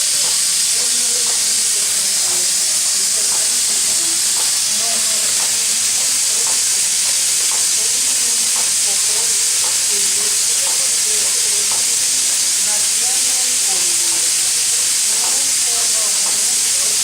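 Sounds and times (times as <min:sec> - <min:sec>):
steam venting hiss: 0:00.0 - 0:17.0.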